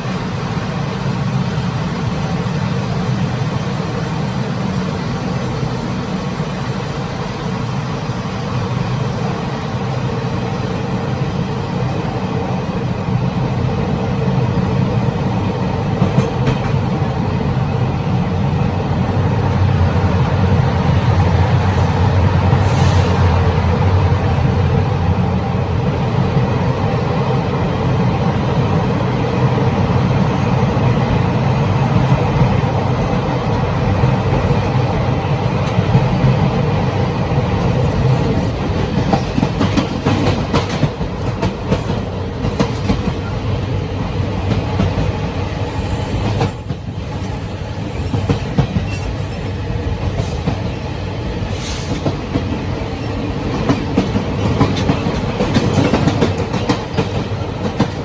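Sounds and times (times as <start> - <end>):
train rumble and rattle: 0.0 - 58.0.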